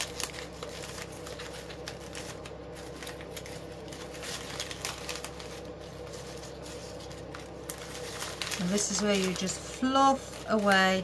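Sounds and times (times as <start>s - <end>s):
faint steady hum: 0.0s - 11.0s
ribbon rustling and crinkling: 0.0s - 11.0s.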